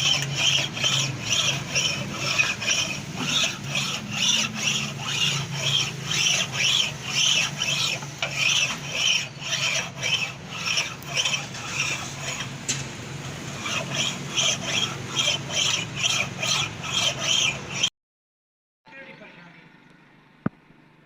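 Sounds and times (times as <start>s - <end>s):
rhythmic rasping on metal: 0.0s - 17.9s.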